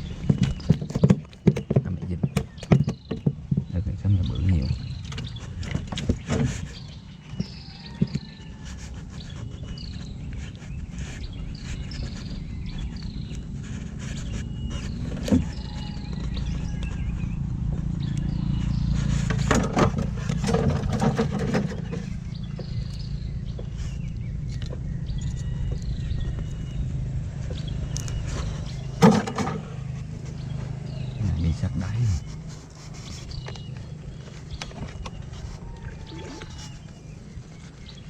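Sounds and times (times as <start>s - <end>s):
small boat motor running: 2.5s - 38.0s.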